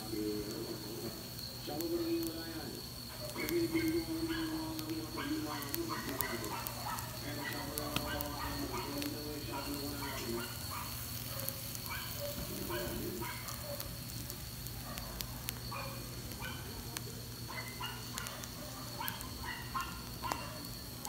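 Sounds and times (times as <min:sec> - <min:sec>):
background calls: 0:00.0 - 0:21.0
fish grilling with crackles: 0:00.0 - 0:21.0.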